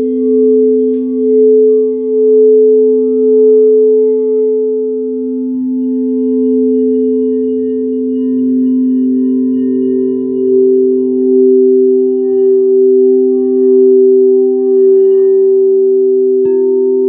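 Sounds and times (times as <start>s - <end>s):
singing bowls ringing: 0.0s - 17.0s.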